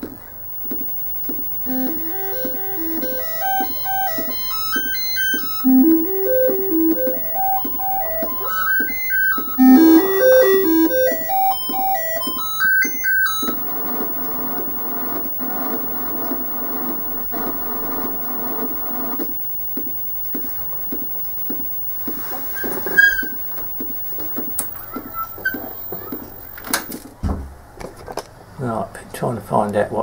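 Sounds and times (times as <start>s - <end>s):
steady rough buzzing noise: 0.0s - 27.0s
electronic beeping tune: 0.6s - 26.9s.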